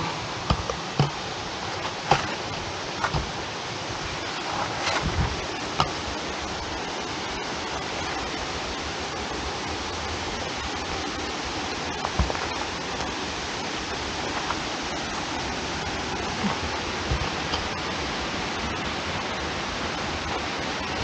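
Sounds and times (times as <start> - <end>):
waterfall and creek rushing: 0.0 - 21.0.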